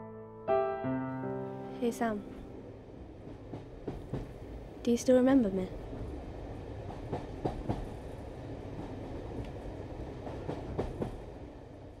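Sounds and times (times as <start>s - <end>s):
train rumbling: 1.9s - 12.0s.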